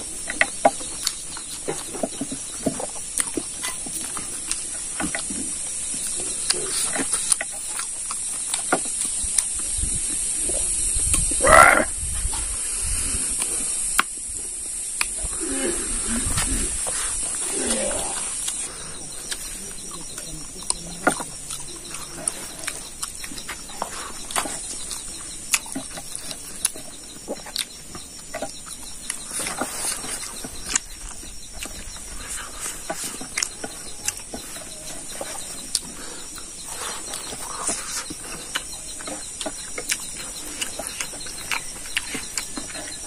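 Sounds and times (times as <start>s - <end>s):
high-pitched background drone: 0.0s - 43.0s
man chewing food: 0.0s - 43.0s.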